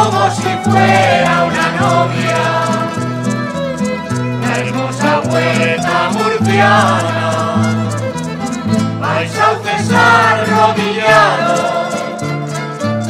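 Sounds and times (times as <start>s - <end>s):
mixed choir singing: 0.0s - 3.5s, 4.4s - 8.0s, 9.0s - 12.4s
string ensemble playing folk song: 0.0s - 13.0s.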